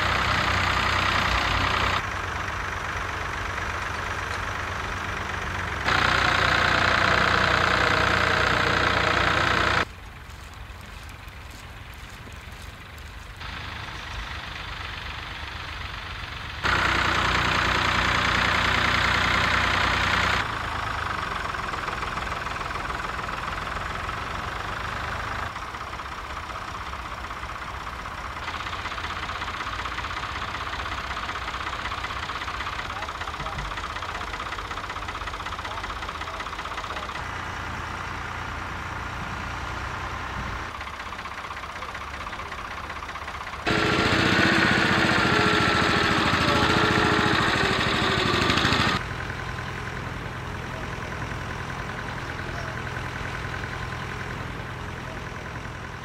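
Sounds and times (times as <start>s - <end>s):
crawler tractor engine wavering: 0.0s - 56.0s
tractor engines running: 0.0s - 56.0s.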